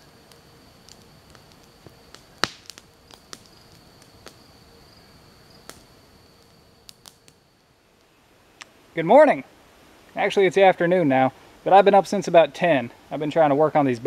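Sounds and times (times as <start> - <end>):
campfire crackling and popping: 0.0 - 14.0
high insect trill: 0.0 - 14.0.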